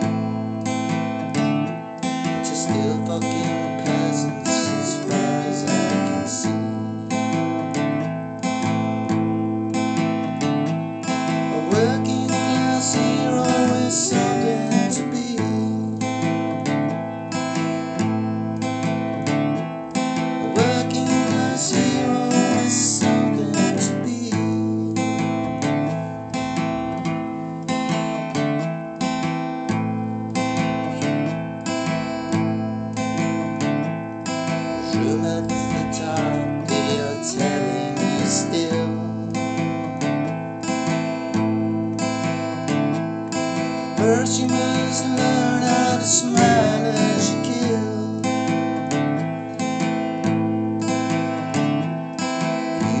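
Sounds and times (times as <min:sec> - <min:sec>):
acoustic guitar strumming chords: 0:00.0 - 0:53.0.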